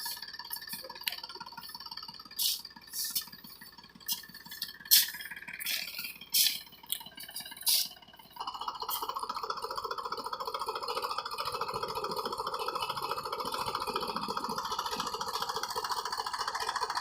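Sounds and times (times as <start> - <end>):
rapidly pulsing mid-pitched noise: 0.0 - 17.0
tractor diesel engine idling: 0.0 - 17.0.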